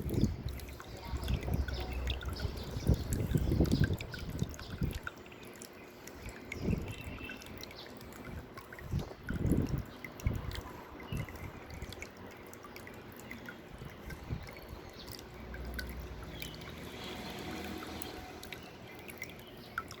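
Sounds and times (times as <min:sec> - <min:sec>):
fountain water trickling: 0:00.0 - 0:20.0.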